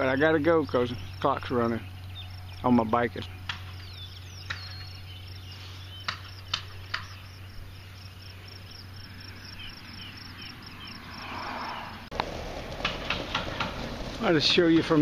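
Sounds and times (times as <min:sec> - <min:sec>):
insects trilling: 0:00.0 - 0:12.2.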